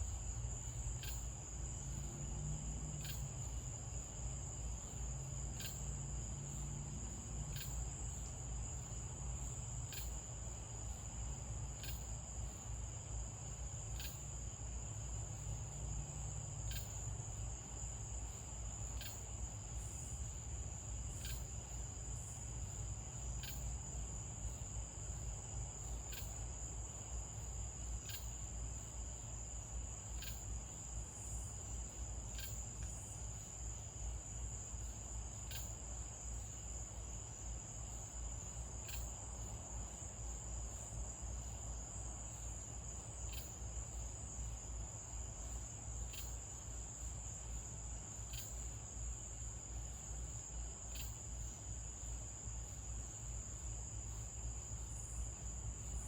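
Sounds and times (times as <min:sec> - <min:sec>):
crickets trilling: 0:00.0 - 0:56.0
sharp insect chirp: 0:00.0 - 0:56.0.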